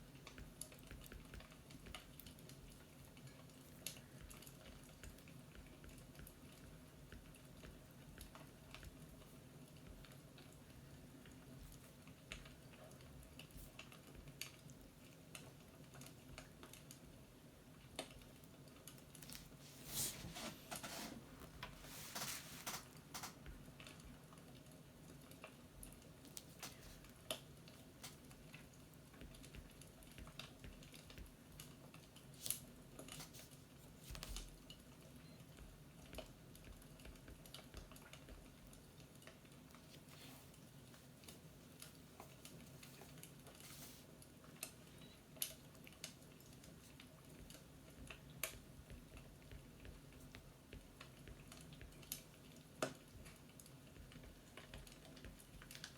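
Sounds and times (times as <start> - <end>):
faint clicks and crackles: 0.0 - 55.9.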